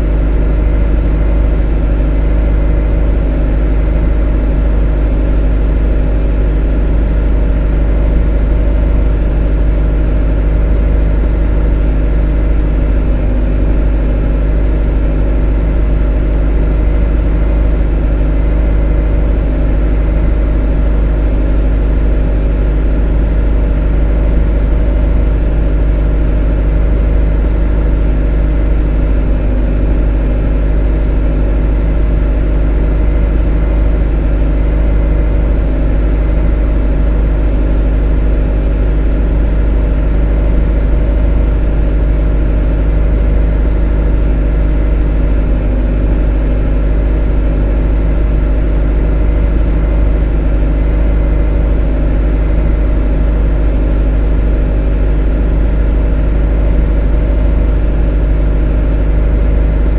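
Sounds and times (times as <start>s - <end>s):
motor running with low drone: 0.0s - 59.9s.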